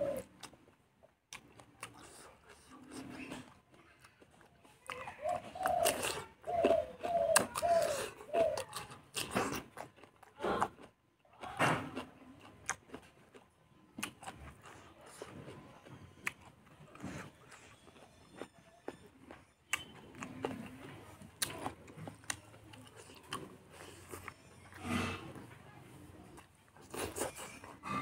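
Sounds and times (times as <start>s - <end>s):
mouth chewing with wet smacks: 0.2s - 25.5s.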